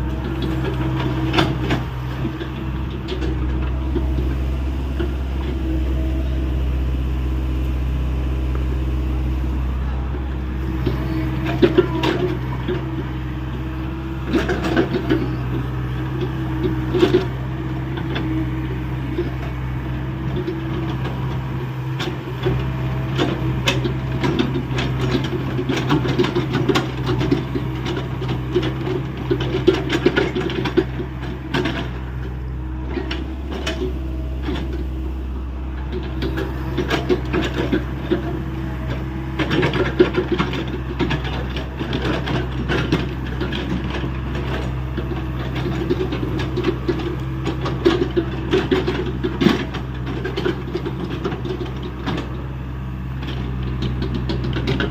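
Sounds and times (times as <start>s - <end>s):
excavator knocks and rattles: 0.0s - 6.6s, 9.4s - 54.9s
excavator diesel engine running: 0.0s - 54.9s.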